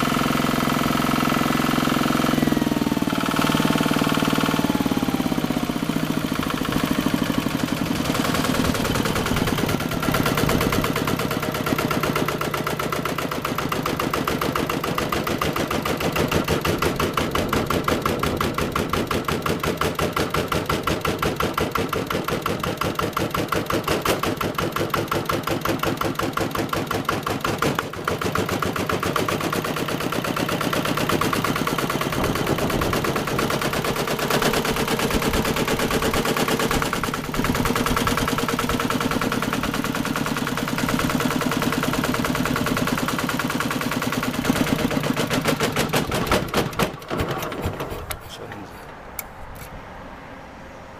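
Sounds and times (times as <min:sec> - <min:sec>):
diesel engine chugging: 0:00.0 - 0:49.2.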